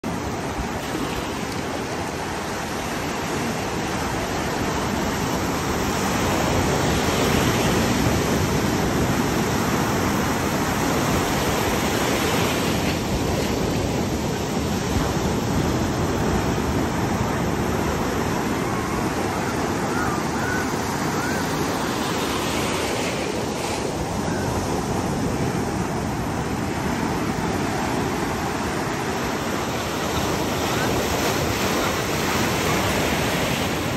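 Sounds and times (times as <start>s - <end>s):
ocean surf breaking: 0.1s - 33.9s.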